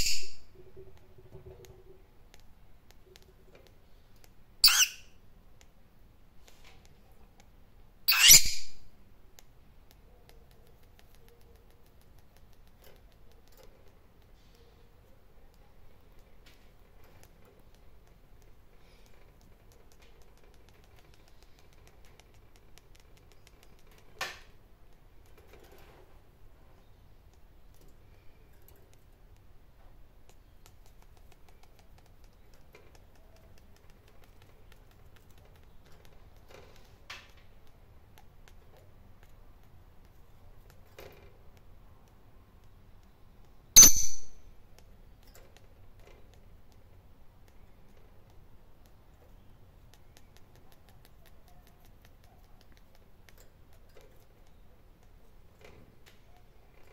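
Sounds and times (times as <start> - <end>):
bird clicking and tapping in cage: 9.3 - 14.7, 15.4 - 26.2, 26.9 - 56.9.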